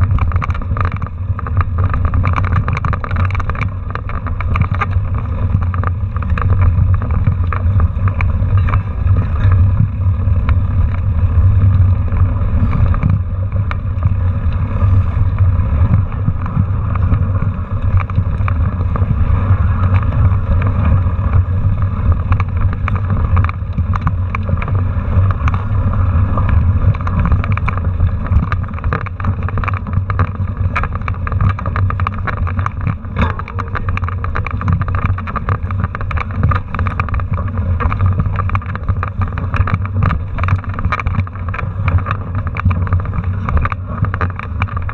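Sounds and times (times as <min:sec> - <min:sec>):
bike knocking and rattling: 0:00.0 - 0:44.9
wind rumble on microphone: 0:00.0 - 0:44.9.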